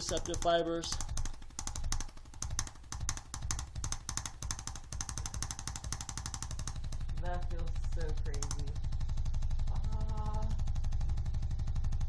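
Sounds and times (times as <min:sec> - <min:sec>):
low machine hum: 0:00.0 - 0:12.0
rapid mechanical tapping: 0:00.0 - 0:12.0.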